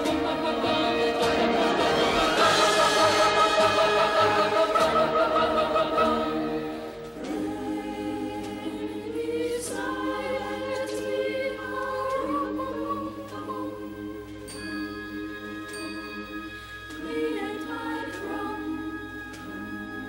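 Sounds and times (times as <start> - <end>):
choir singing held chords: 0.0 - 20.0.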